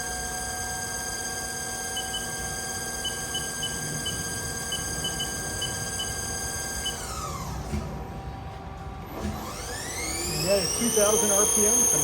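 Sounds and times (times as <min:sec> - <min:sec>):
lathe spindle electric whine: 0:00.0 - 0:07.6, 0:09.4 - 0:12.0.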